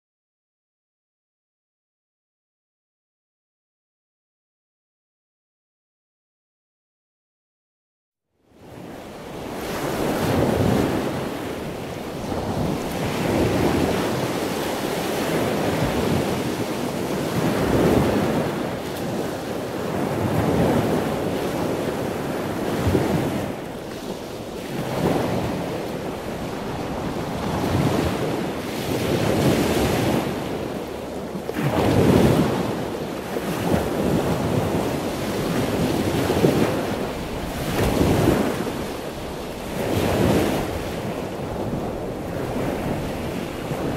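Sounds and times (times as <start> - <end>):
ocean waves breaking: 8.6 - 43.9.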